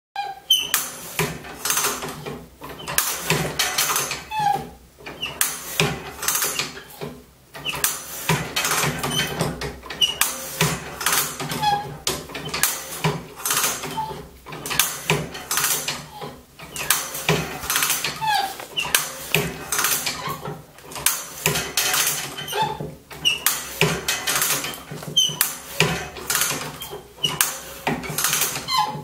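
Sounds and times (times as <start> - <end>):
saw setting machine clicking: 0.6 - 29.0.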